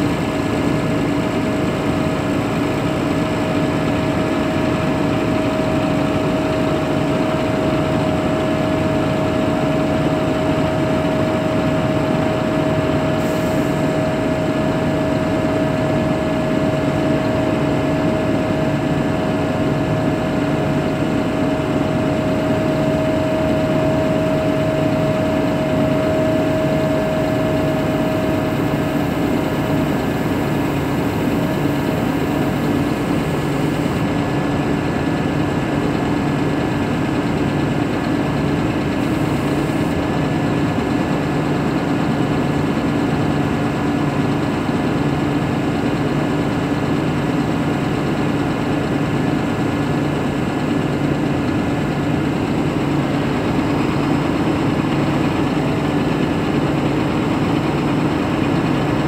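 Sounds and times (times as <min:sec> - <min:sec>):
truck engine hum: 0:00.0 - 0:59.0.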